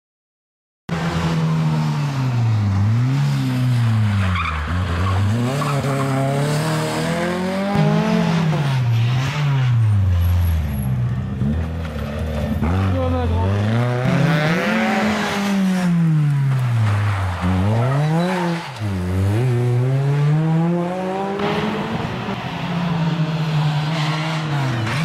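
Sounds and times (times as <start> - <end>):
rally car engines revving: 0.9 - 25.0.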